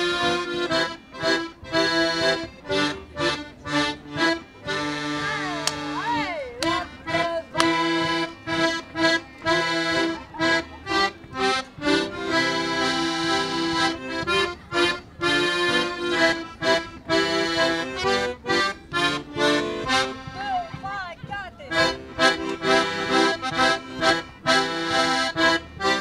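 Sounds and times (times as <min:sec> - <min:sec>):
accordions playing rhythmic chords: 0:00.0 - 0:26.0.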